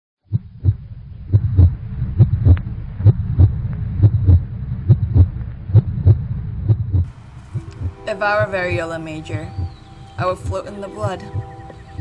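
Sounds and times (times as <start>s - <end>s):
heartbeat thumps: 0.3s - 12.0s
steady low hum: 0.3s - 12.0s.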